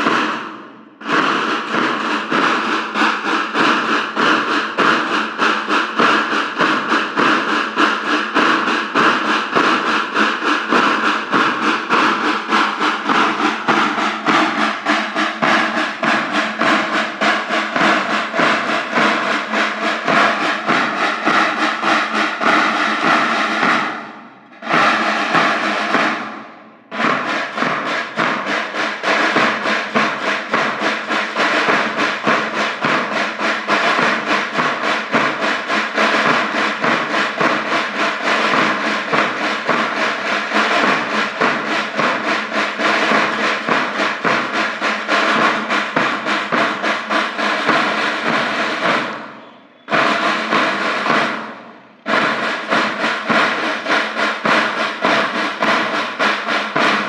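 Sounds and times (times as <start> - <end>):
rapid drumbeat: 0.0 - 57.0.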